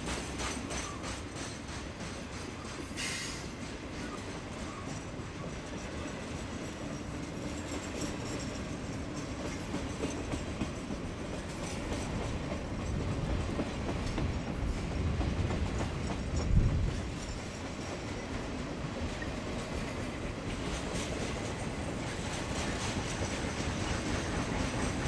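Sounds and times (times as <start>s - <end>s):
freight train rumble: 0.0s - 25.0s
wheels clacking over rail joints: 0.0s - 25.0s.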